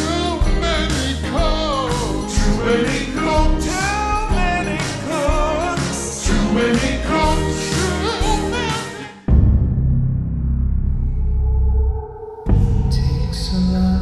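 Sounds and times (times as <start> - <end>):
pop song with vocals and synths: 0.0 - 9.6, 11.9 - 14.0.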